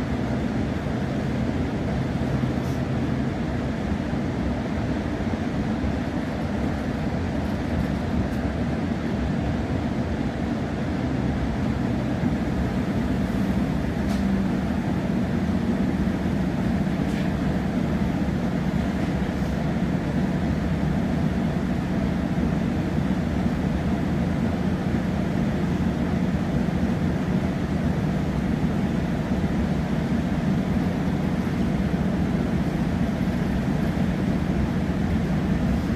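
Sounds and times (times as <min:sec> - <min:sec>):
constant train hum: 0:00.0 - 0:35.9
train wheels rumbling on track: 0:00.0 - 0:35.9.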